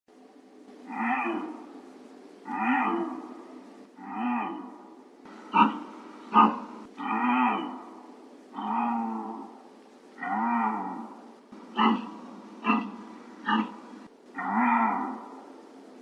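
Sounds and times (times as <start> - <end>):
deer calling: 2.5 - 15.5.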